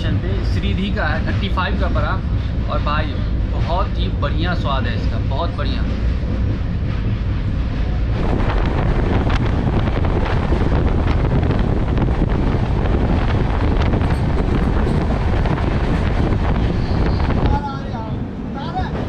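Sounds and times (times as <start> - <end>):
train wheel and track noise: 0.0 - 19.0
wind buffeting microphone: 0.0 - 19.0.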